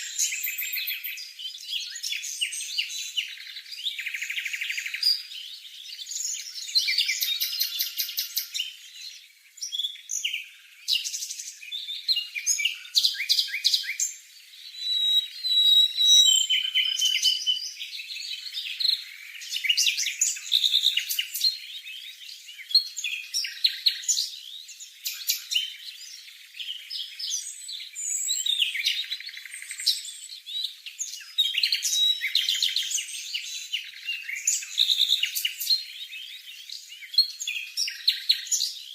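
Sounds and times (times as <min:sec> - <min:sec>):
bird singing high-pitched song: 0:00.0 - 0:38.9.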